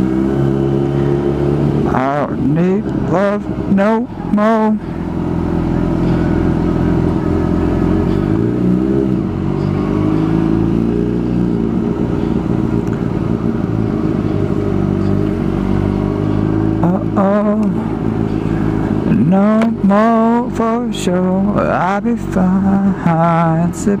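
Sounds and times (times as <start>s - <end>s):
motorcycle engine running: 0.0s - 24.0s
road and wind rumble: 0.0s - 24.0s.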